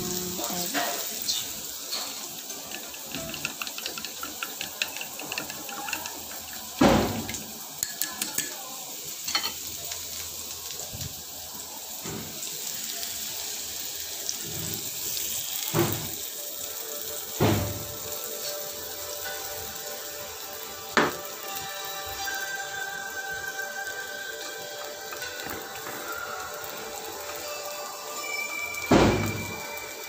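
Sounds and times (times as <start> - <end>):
egg frying in a wok: 0.0 - 30.0.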